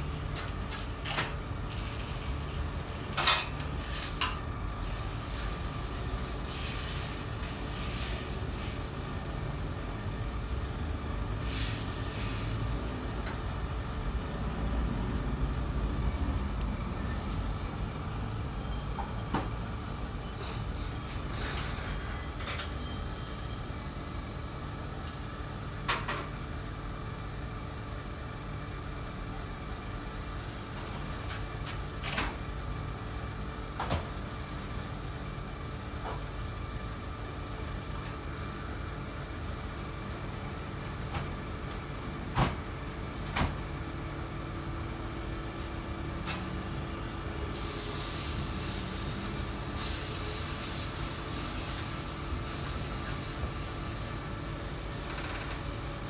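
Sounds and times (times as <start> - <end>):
chicken sizzling on griddle: 0.0 - 45.6, 47.2 - 56.0
kitchen hum: 0.0 - 56.0.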